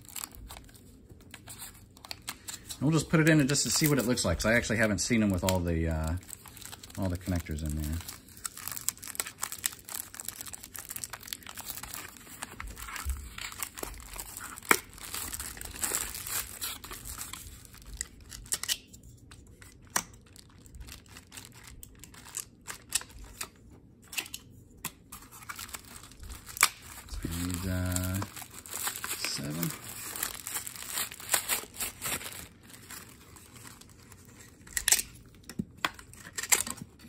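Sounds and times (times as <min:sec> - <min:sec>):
plastic packaging crinkling and tearing: 0:00.0 - 0:37.0.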